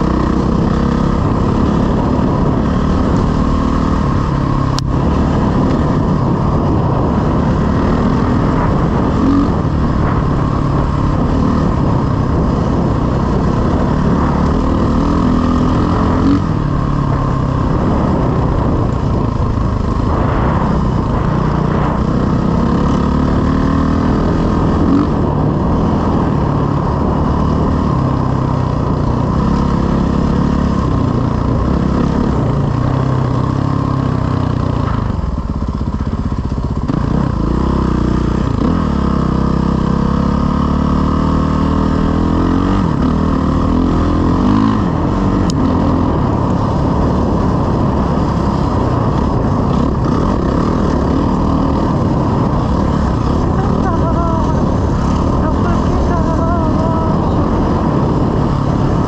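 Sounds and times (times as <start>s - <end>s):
dirt bike engine revving: 0.0s - 36.1s, 36.7s - 59.0s.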